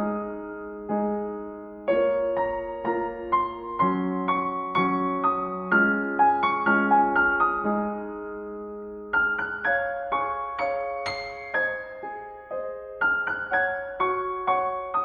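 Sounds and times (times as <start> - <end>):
slow gentle piano: 0.0 - 15.0.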